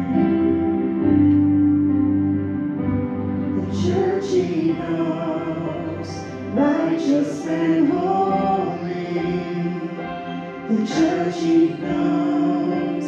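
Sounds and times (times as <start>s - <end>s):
instrumental accompaniment: 0.0s - 13.0s
worship song singing: 0.0s - 13.0s.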